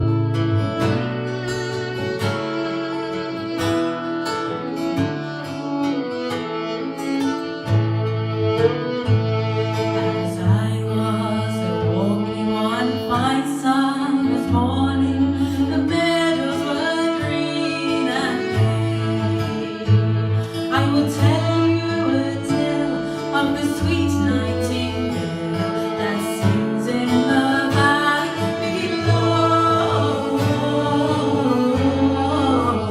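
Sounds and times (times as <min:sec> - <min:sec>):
fiddle melody: 0:00.0 - 0:32.9
strummed guitar: 0:00.0 - 0:32.9.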